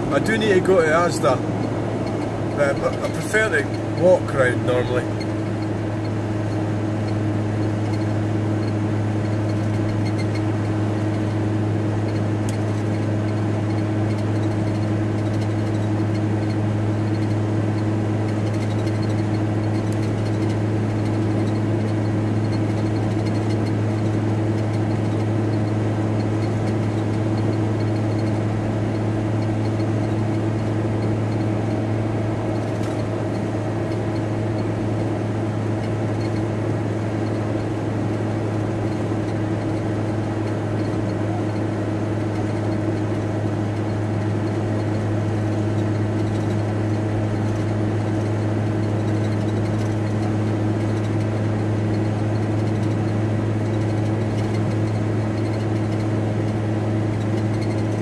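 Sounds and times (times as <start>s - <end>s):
van engine and road drone: 0.0s - 58.0s.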